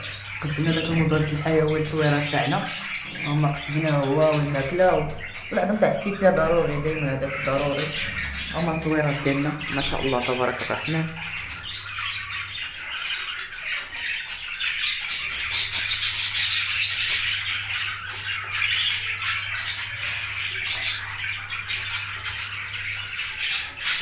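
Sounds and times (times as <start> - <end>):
budgerigars chirping and squawking: 0.0 - 24.0.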